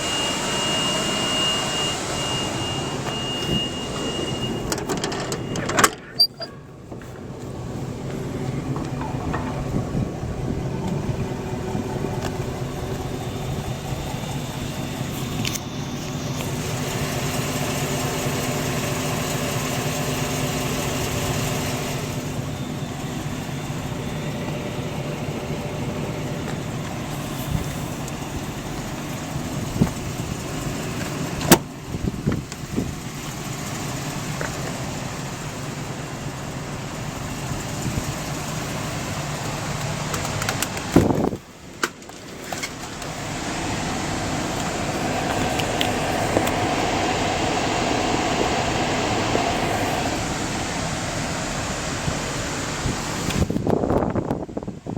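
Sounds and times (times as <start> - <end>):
bus engine humming: 0.0 - 54.9.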